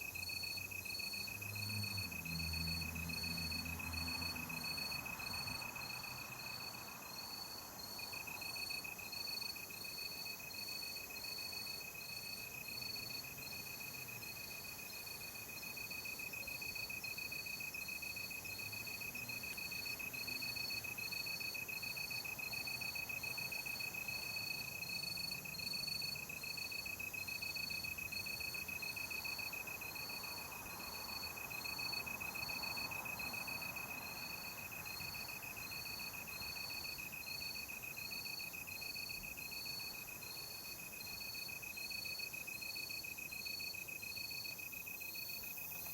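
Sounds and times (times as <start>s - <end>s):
cricket chirping: 0.0s - 45.9s.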